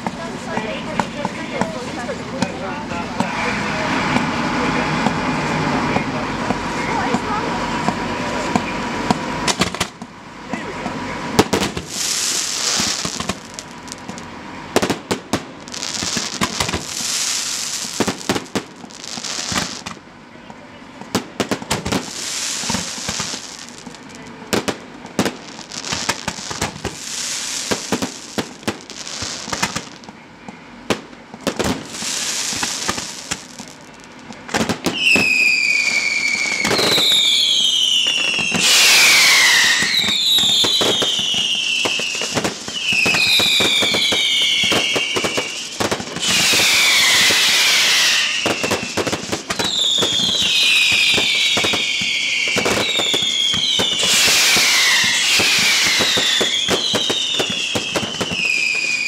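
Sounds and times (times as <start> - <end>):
firework hissing: 0.0 - 20.1, 21.0 - 30.2, 30.8 - 59.0
firework bangs and crackle: 0.0 - 59.0
whistling fireworks falling in pitch: 0.0 - 59.0.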